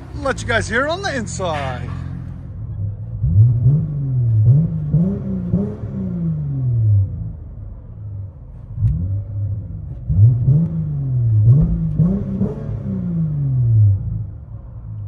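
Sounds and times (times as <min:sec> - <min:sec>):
car engine revving: 0:00.0 - 0:07.6, 0:08.5 - 0:14.3.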